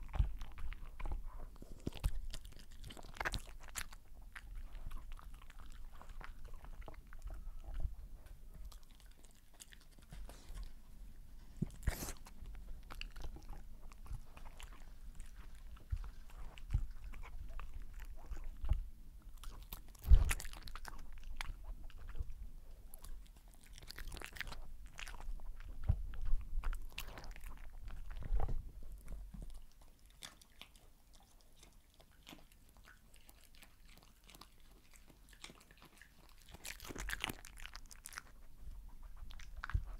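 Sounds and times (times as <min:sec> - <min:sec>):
dog chewing and crunching food: 0:00.0 - 0:39.9.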